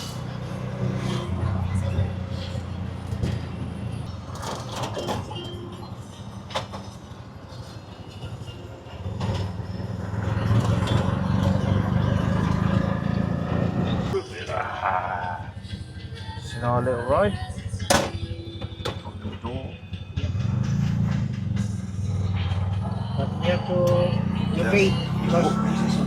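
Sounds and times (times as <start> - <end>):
taxi engine running: 0.0 - 4.8, 9.0 - 26.0.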